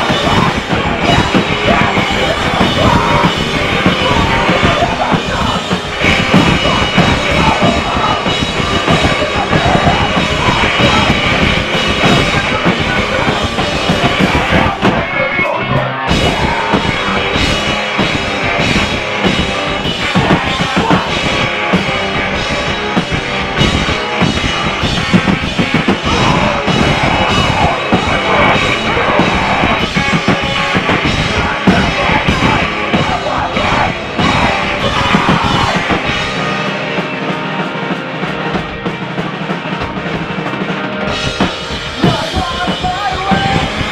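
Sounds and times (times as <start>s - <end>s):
bass guitar: 0.0s - 43.9s
drum kit: 0.0s - 43.9s
electric guitars: 0.0s - 43.9s.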